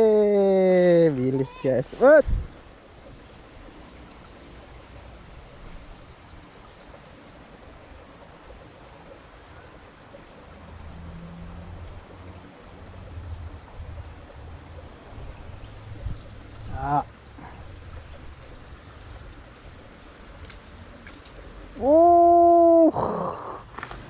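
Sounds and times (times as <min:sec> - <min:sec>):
insects trilling: 0:00.0 - 0:24.0
low uneven rumble: 0:02.2 - 0:24.0.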